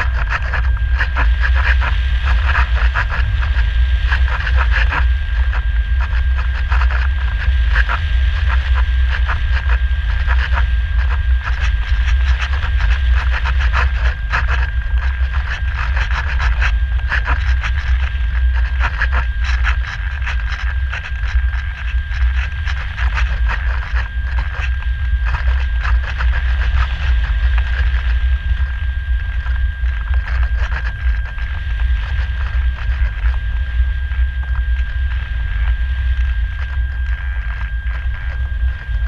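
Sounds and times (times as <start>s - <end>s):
thin high whine: 0.0s - 39.0s.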